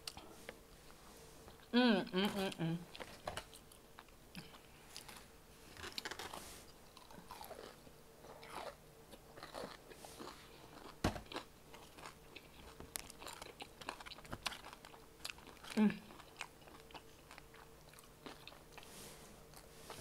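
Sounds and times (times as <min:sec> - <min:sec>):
crunching and chewing chicken: 0:02.9 - 0:20.0.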